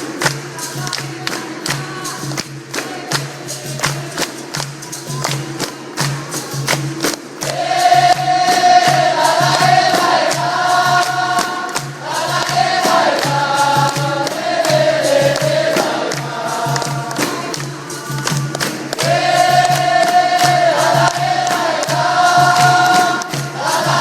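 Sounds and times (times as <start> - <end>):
group singing a chorus: 0.0 - 24.0
struck percussion beat: 0.0 - 24.0.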